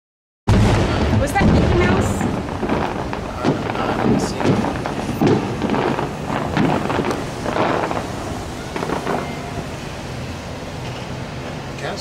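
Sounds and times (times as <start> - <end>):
wind noise on microphone: 0.5 - 10.6
distant fireworks booming: 0.5 - 11.8.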